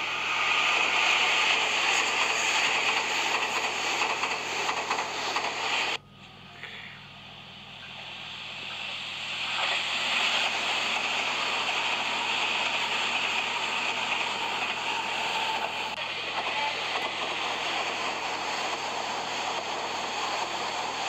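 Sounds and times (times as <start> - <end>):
electric train passing at speed: 0.0 - 6.0, 7.4 - 21.0.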